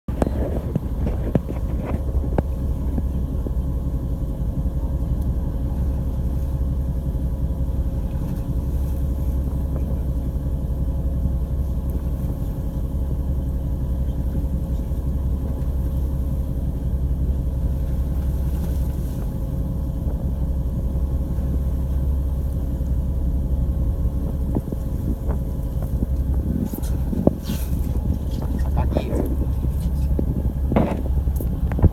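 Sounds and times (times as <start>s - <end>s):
boat motor droning: 0.0s - 31.9s.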